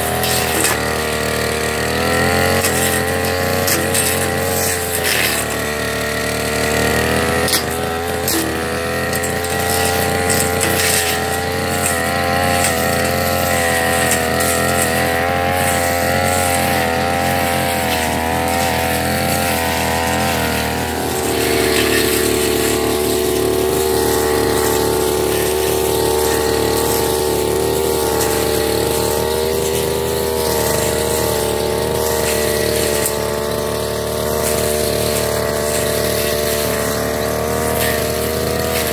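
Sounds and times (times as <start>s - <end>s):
brush cutter engine running: 0.0s - 38.9s.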